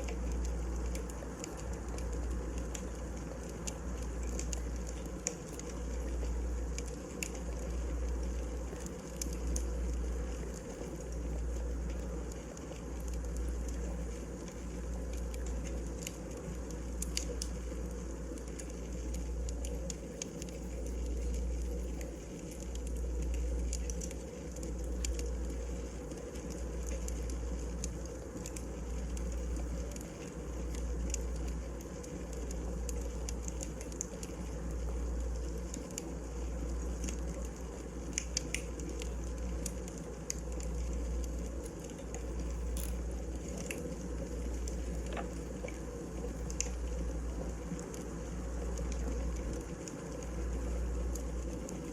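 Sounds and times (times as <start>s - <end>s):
low fire rumble: 0.0s - 51.9s
wood fire crackling: 0.0s - 51.9s.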